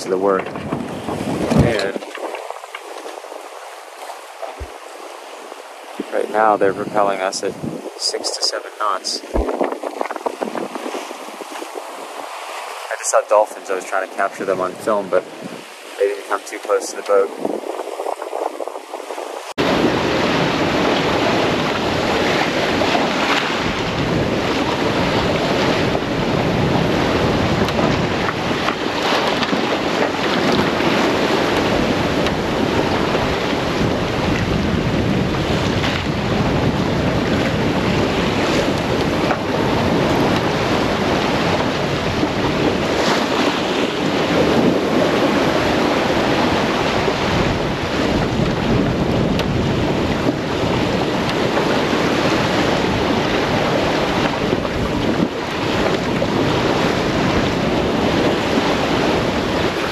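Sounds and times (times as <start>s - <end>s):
water rushing past hull: 0.0s - 59.9s
wind buffeting microphone: 0.0s - 59.9s.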